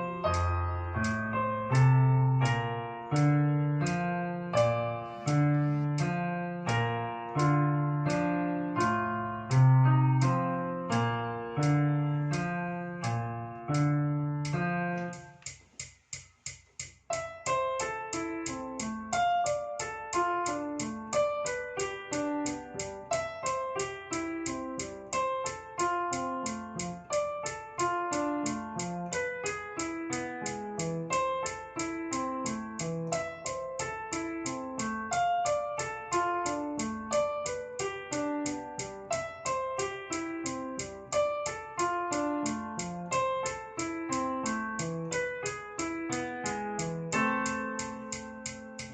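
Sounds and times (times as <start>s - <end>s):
piano music: 0.0s - 15.4s, 17.1s - 48.9s.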